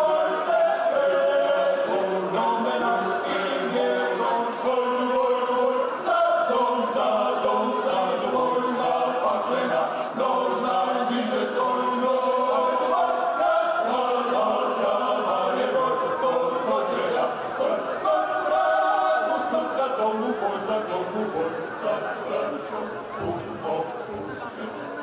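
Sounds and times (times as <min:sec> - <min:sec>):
men singing in harmony: 0:00.0 - 0:25.0.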